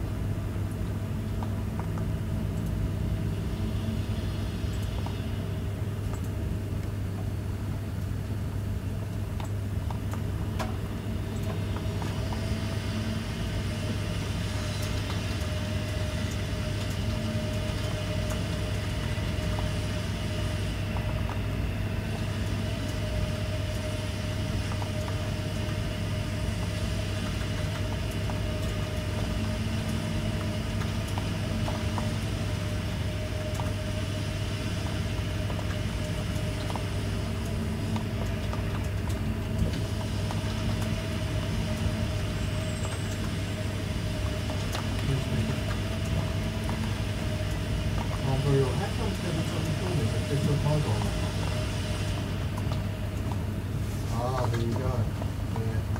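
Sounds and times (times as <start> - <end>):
low hum and rumble: 0.0 - 55.9.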